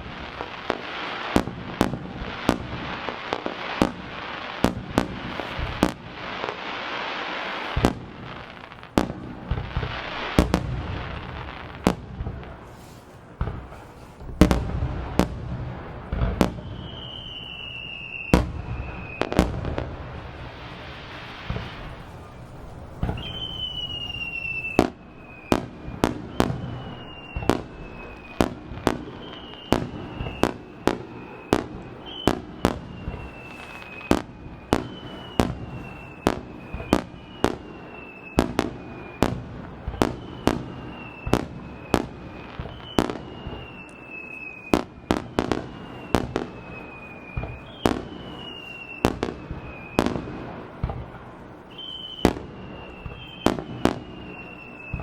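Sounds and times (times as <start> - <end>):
fireworks bursting with bangs: 0.0 - 55.0
fireworks whistling: 0.0 - 55.0.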